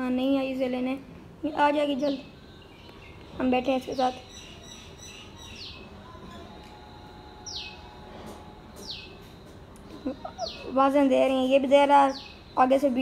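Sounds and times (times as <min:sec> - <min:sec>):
high downward-sliding bird chirp: 0:01.5 - 0:13.0.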